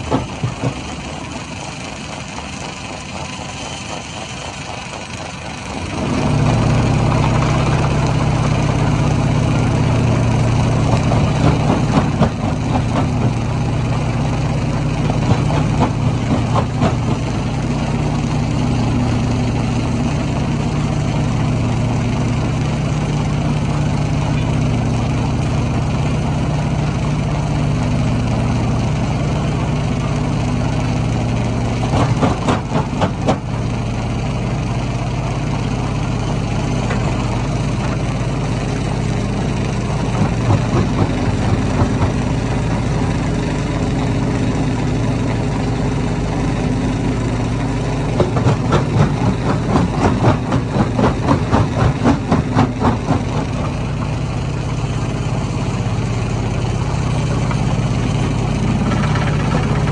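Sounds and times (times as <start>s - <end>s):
heavy engine drone: 0.0s - 59.9s.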